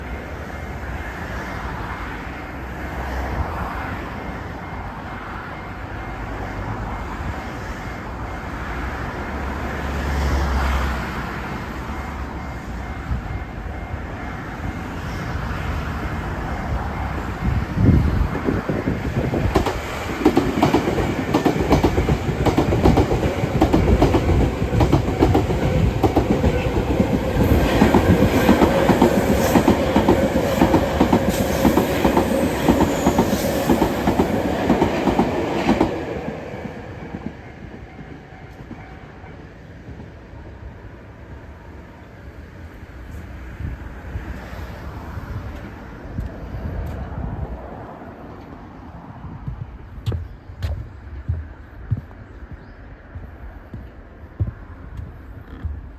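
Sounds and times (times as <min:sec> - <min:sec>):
electric train rumbling: 0:00.0 - 0:55.9.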